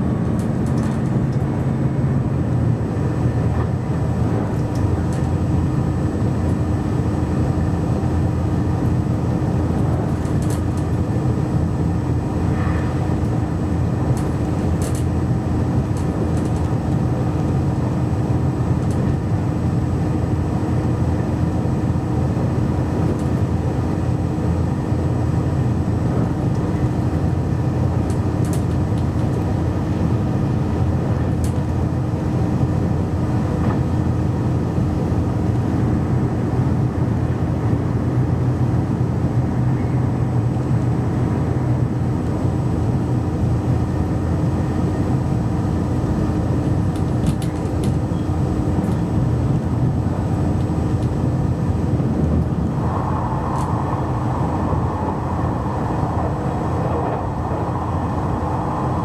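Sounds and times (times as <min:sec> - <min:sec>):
diesel engine hum: 0:00.0 - 0:59.0
wheels rumbling on rails: 0:00.0 - 0:59.0.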